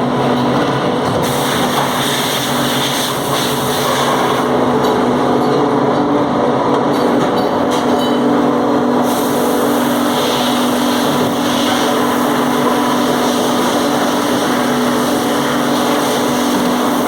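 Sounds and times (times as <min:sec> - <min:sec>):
factory machinery drone: 0:00.0 - 0:17.0.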